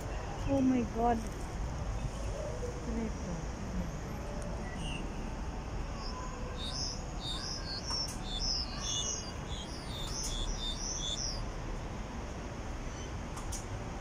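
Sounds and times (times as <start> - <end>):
songbird chirping: 0.0 - 11.6.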